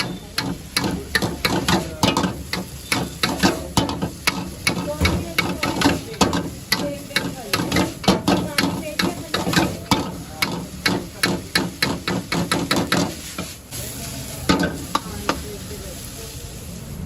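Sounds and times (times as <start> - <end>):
metal spatula scraping a pan: 0.0 - 15.5
food sizzling: 0.0 - 17.0.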